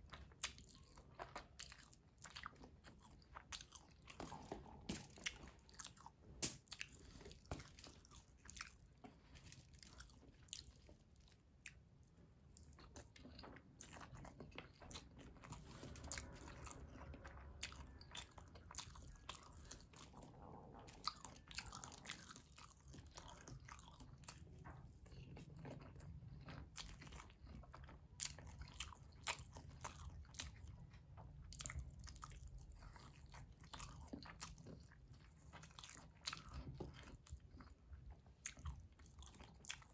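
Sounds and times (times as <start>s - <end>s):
person chewing: 0.0s - 39.9s.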